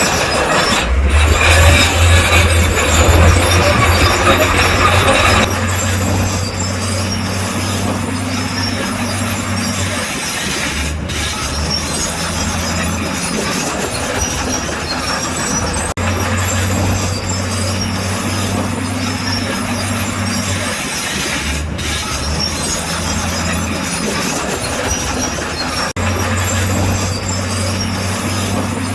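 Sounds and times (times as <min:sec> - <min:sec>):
bulldozer diesel engine: 0:00.0 - 0:28.9
crawler tracks clanking and squealing: 0:00.0 - 0:28.9.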